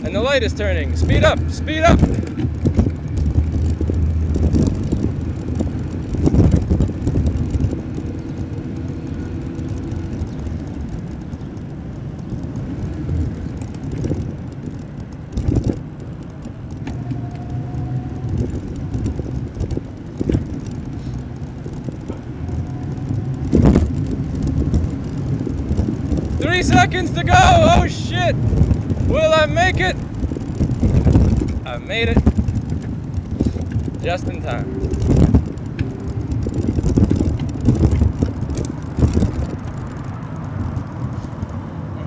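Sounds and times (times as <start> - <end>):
knocks and rattles over bumps: 0.0 - 42.0
road and wind rumble: 0.0 - 42.0.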